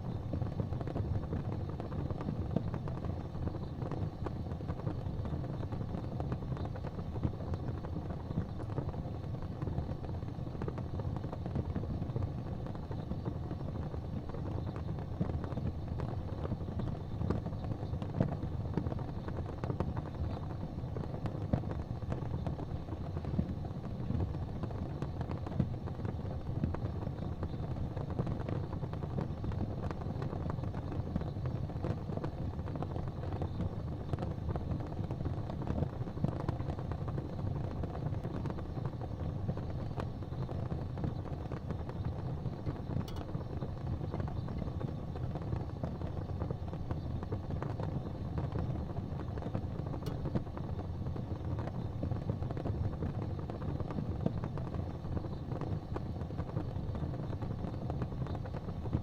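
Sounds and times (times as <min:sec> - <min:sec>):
fire pops and snaps: 0:00.0 - 0:59.0
low rumble of fire: 0:00.0 - 0:59.0.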